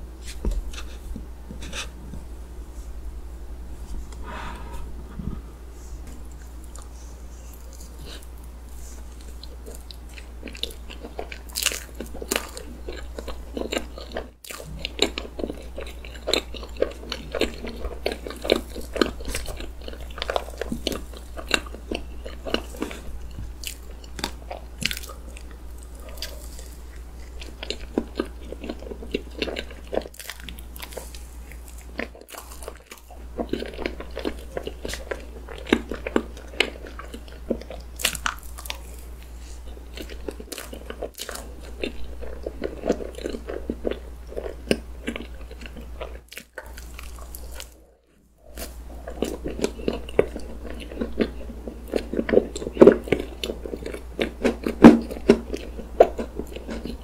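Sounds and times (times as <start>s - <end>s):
person chewing: 6.1s - 57.0s.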